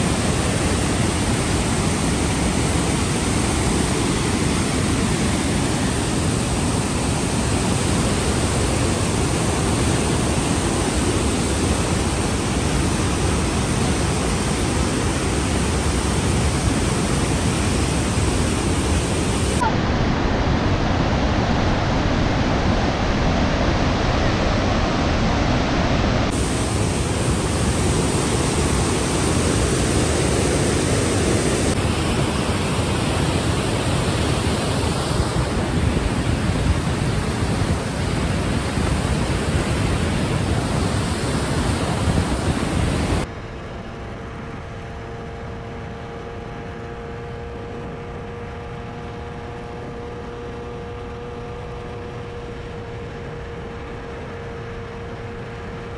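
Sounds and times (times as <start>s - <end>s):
wind rush on microphone: 0.0s - 55.9s.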